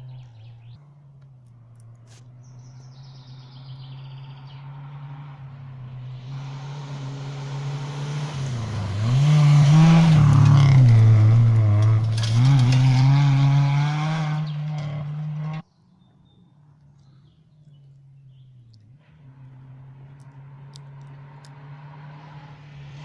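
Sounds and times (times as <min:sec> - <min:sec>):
rally car engine approaching: 0:00.0 - 0:23.0.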